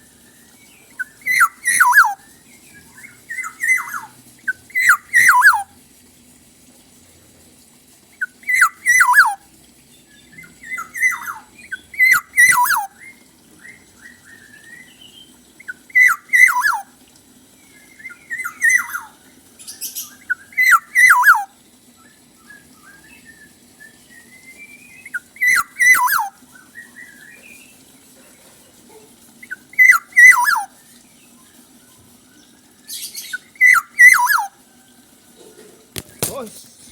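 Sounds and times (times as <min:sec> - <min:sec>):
bird singing whistled notes: 0:00.0 - 0:05.7, 0:08.2 - 0:16.9, 0:17.6 - 0:27.9, 0:29.4 - 0:34.6.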